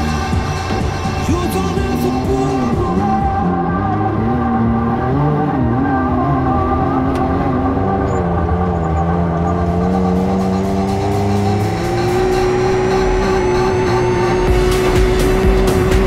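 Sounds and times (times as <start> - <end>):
background music with steady beat: 0.0 - 16.0
off-road vehicle engine running: 0.0 - 16.0.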